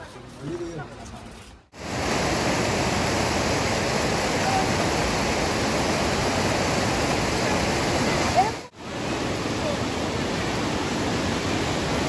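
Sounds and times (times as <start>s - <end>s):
river water rushing over rocks: 1.8s - 12.0s.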